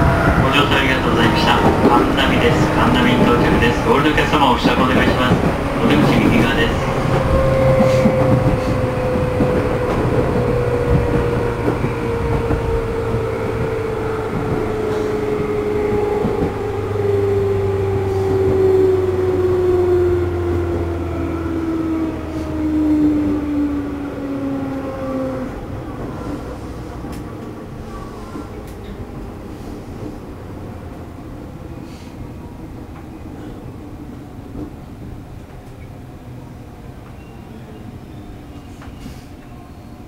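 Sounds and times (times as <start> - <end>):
train running noise: 0.0 - 40.0.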